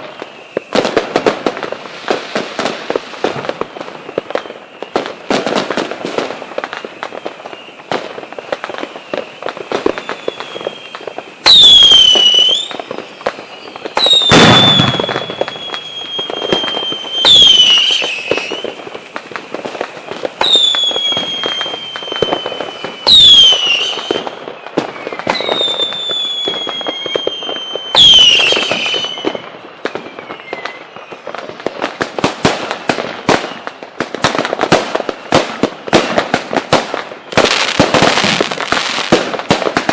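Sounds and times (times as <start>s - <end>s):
fireworks crackling and popping: 0.0s - 39.9s
whistling fireworks: 0.0s - 39.9s.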